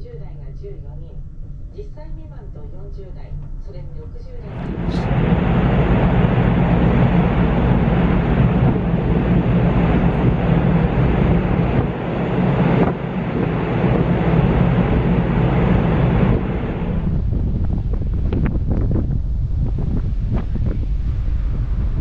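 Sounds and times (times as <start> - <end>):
ship engines rumbling: 1.8 - 22.0
wind rumble: 4.2 - 22.0.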